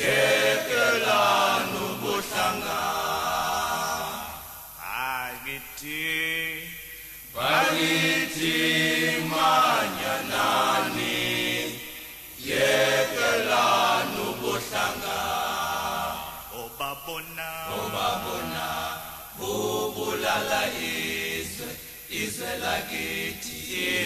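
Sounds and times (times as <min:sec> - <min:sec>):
group of voices singing in harmony: 0:00.0 - 0:24.0.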